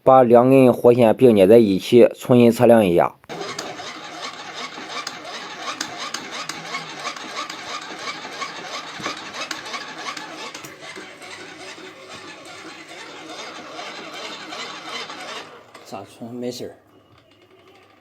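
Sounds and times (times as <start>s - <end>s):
hand-cranked generator whirring: 3.3s - 18.0s.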